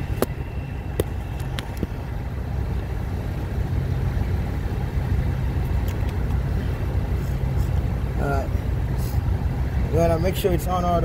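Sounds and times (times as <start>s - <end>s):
engine idle rumble: 0.0s - 11.0s.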